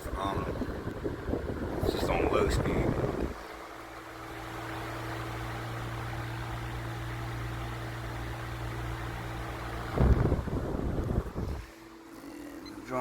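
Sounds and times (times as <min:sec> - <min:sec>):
fan airstream buffeting microphone: 0:00.0 - 0:13.0
table fan motor hum: 0:00.0 - 0:13.0.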